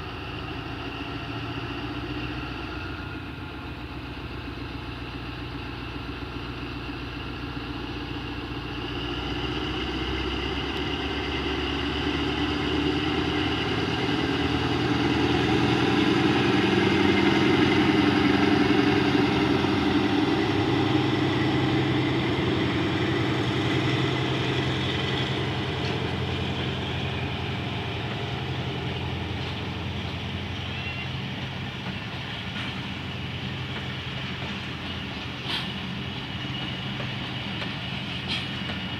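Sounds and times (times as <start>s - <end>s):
locomotive engine running under load: 0.0s - 38.9s.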